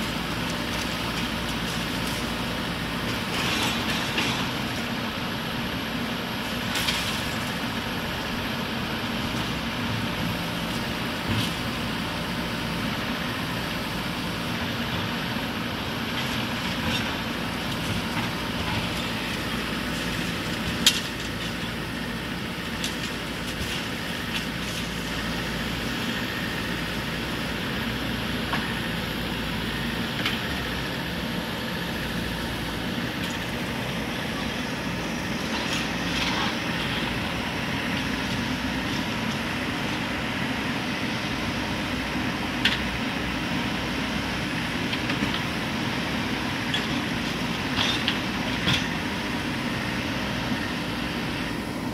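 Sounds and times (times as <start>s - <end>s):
diesel engine under load: 0.0s - 51.9s.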